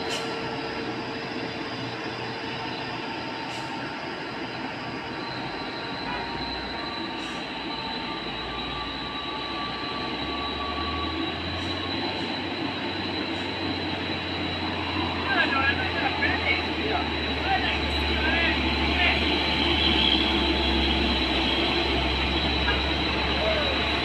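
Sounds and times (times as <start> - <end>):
truck diesel engines rumbling: 0.0 - 24.0.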